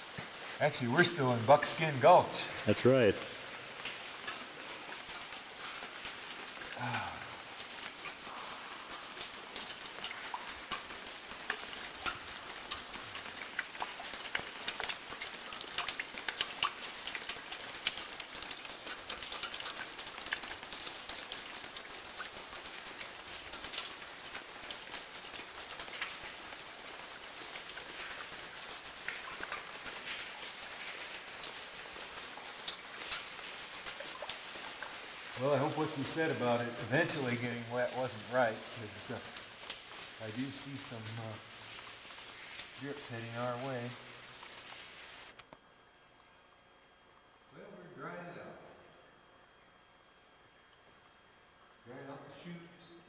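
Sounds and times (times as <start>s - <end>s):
rain pattering: 0.0s - 46.4s
water drops dripping: 0.1s - 45.4s.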